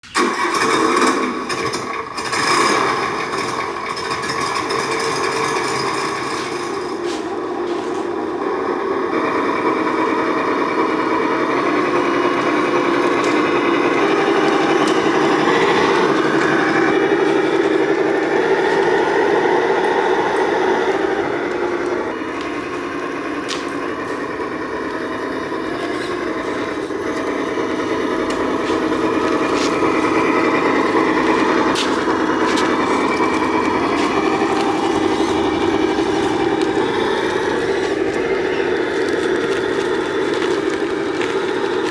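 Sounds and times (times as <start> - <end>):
toy truck motor whining: 0.0 - 41.9.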